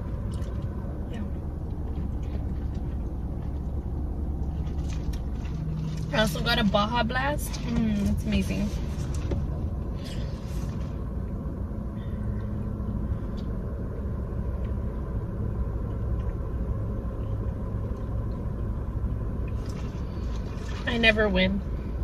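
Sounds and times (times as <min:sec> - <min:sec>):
car air conditioning running: 0:00.0 - 0:22.0.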